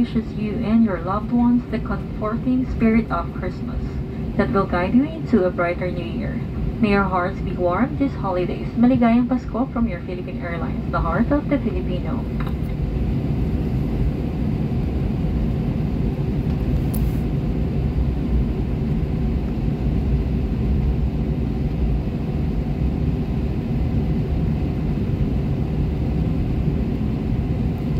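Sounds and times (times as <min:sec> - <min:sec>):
airliner cabin rumble: 0:00.0 - 0:27.9
faint steady hum: 0:00.0 - 0:27.9.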